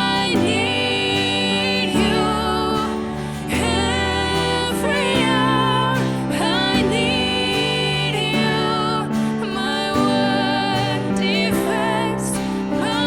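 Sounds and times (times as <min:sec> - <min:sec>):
person singing melody: 0:00.0 - 0:13.0.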